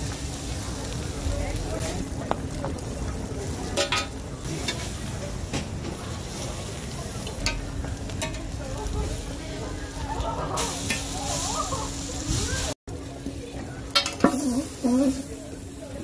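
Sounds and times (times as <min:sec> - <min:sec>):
food sizzling on griddle: 0:00.0 - 0:16.0.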